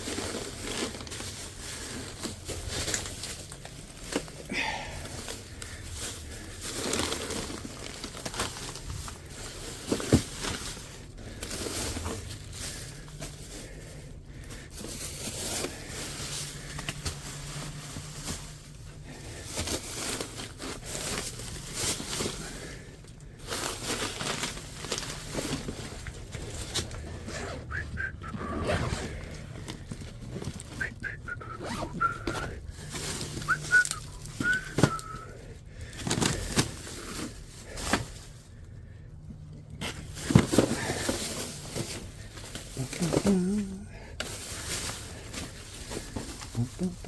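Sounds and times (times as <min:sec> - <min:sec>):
rustling and crinkling: 0:00.0 - 0:47.0.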